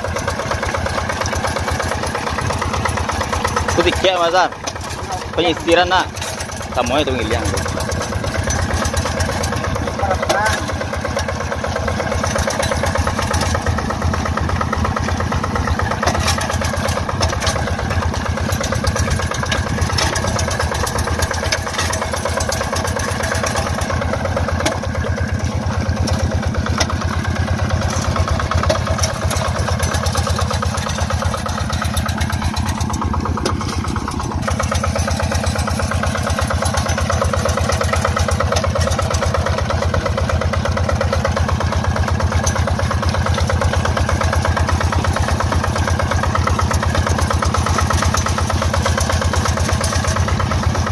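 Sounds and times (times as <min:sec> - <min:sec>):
hand tractor engine running: 0:00.0 - 0:50.9.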